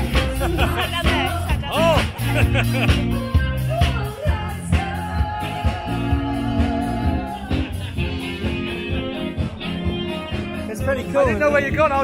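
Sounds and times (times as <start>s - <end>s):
upbeat band music: 0.0s - 12.0s.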